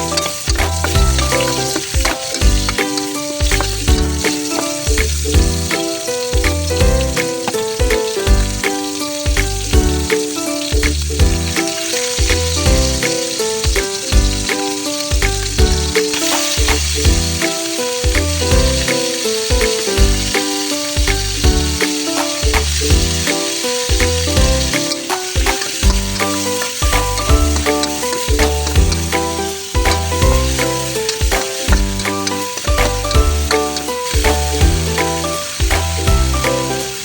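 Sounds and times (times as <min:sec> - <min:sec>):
background music with beat: 0:00.0 - 0:37.0
food frying and sizzling: 0:00.0 - 0:37.0.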